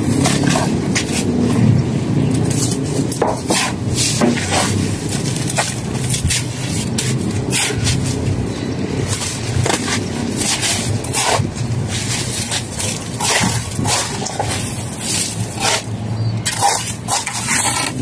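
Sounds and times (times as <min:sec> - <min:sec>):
trowel scraping mortar: 0:02.5 - 0:08.3, 0:09.1 - 0:18.0.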